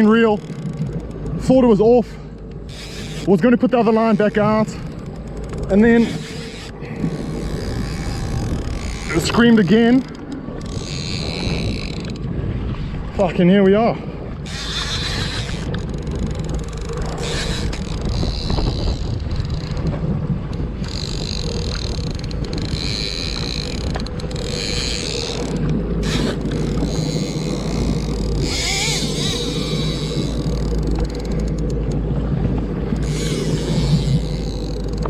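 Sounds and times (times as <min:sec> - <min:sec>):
boat engine running: 0:00.0 - 0:35.0
wind buffeting microphone: 0:00.0 - 0:35.0.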